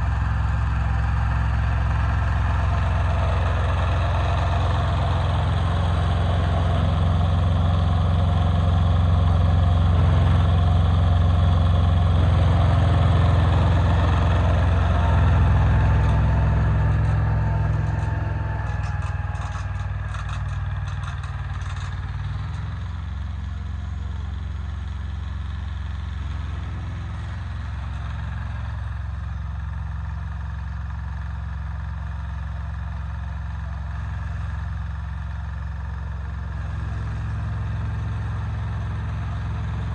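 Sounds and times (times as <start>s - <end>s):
small diesel engine idling: 0.0s - 39.9s.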